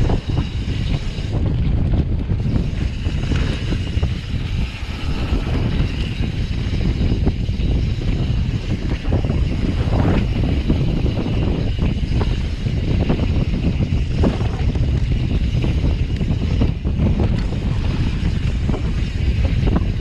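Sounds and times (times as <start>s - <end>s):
bike knocks and rattles: 0.0s - 20.0s
wind rushing over microphone: 0.0s - 20.0s.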